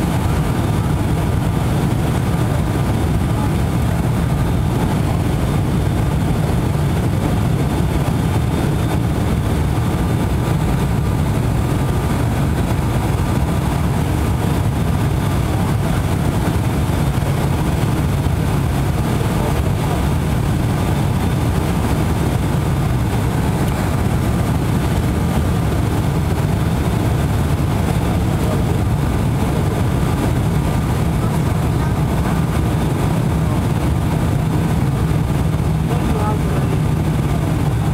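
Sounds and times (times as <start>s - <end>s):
propeller engine drone: 0.0s - 37.9s.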